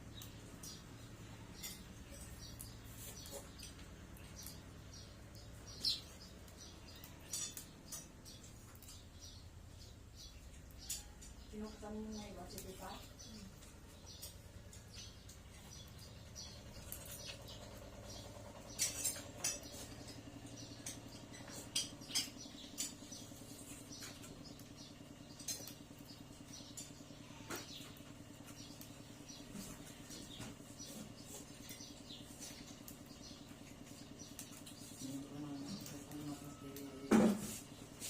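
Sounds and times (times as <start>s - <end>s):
birds clicking and scratching: 0.0s - 38.0s.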